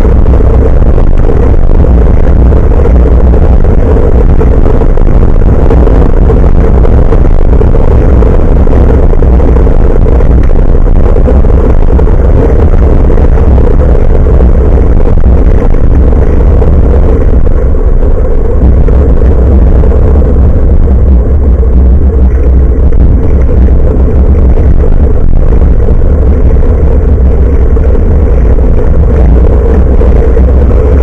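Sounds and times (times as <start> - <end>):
bicycle road rumble: 0.0 - 31.0
wind noise: 0.0 - 31.0.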